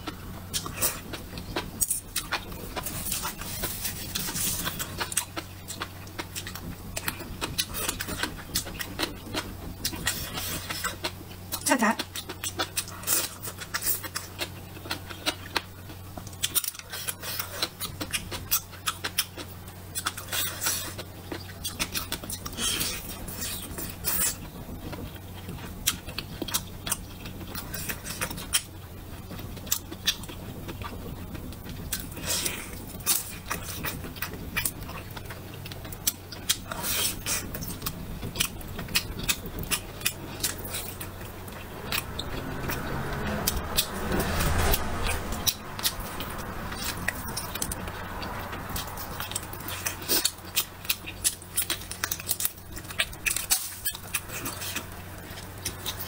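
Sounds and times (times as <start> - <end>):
person biting and chewing food: 0.0 - 28.7, 29.4 - 56.0
sharp clicks and crunches: 0.0 - 28.7, 29.3 - 56.0
low hum: 0.0 - 56.0.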